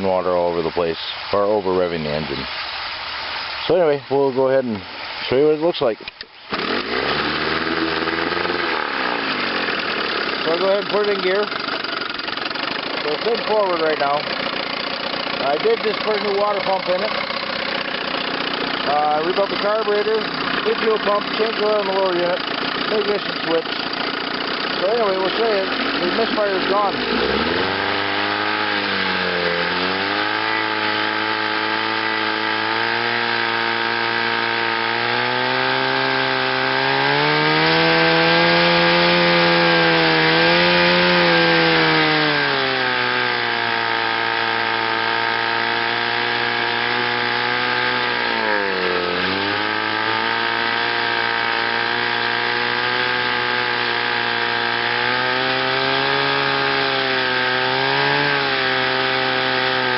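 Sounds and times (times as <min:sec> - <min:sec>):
outboard motor running: 0:06.3 - 0:59.9.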